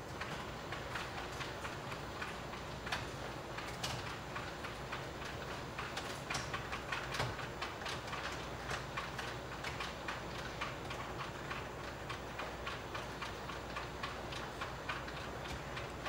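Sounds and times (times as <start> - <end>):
rapid light clicks: 0.1 - 16.0.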